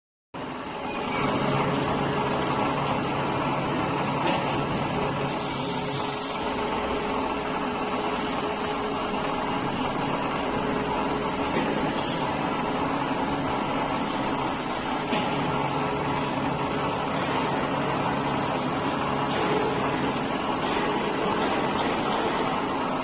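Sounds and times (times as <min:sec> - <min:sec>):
low machine hum: 0:00.4 - 0:23.0.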